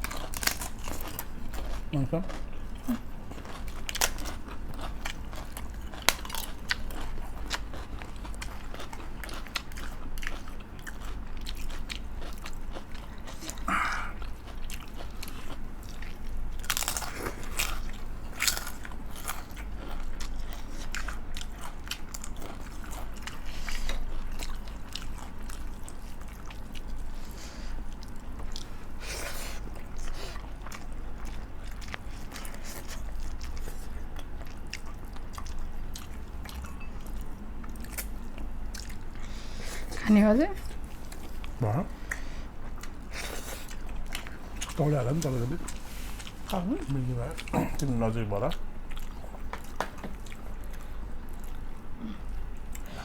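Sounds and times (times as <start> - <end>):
crunchy chewing of food: 0.0 - 53.0.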